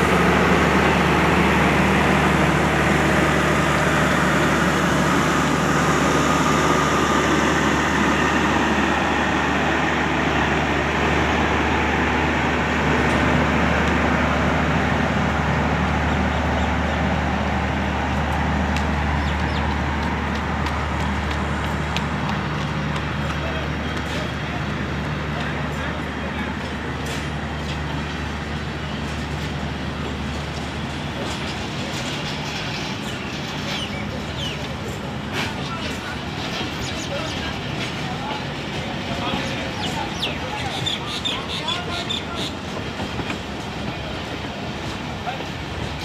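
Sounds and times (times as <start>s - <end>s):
large engine running: 0.0s - 46.0s.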